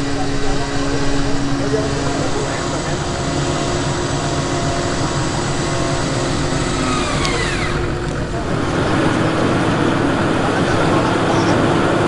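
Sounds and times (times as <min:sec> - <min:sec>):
car engine running: 0:00.0 - 0:12.0
electric winch whining: 0:00.0 - 0:12.0.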